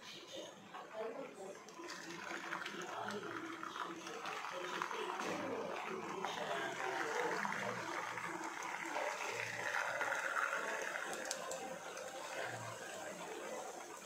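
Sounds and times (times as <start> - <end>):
hot oil sizzling: 1.9 - 14.0.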